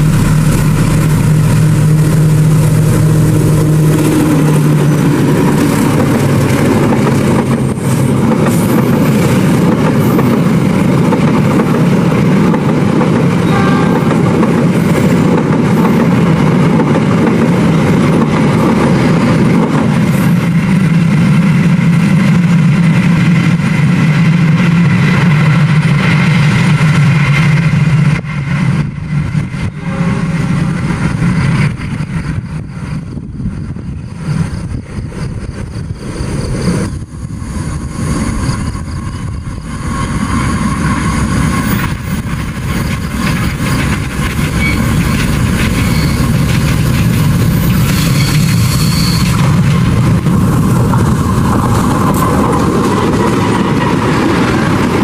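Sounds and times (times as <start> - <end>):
diesel locomotive engine: 0.0 - 55.0
train coaches rolling past: 0.0 - 55.0.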